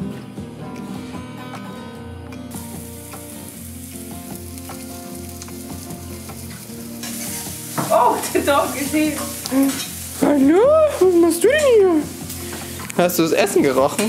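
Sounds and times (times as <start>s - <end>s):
food sizzling in frying pan: 2.5s - 14.0s.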